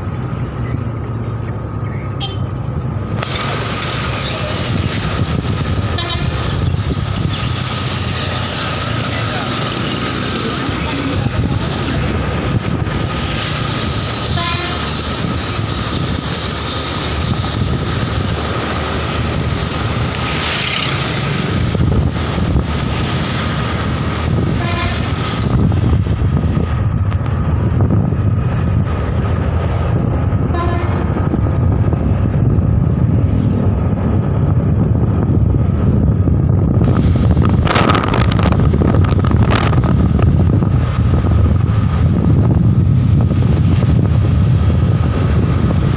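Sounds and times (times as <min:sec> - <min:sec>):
scooter engine and road rumble: 0:00.0 - 0:45.9
wind on microphone: 0:00.0 - 0:45.9.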